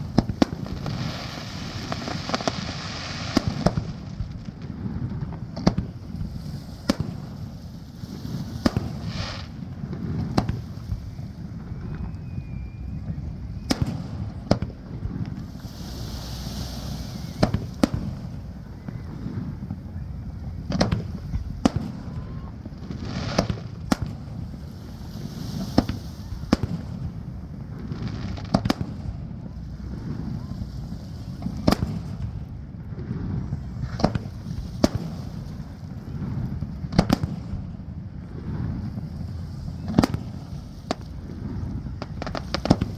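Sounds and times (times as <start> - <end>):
fireworks bursting with bangs: 0.0 - 42.9
fireworks hissing crackle: 0.0 - 42.9.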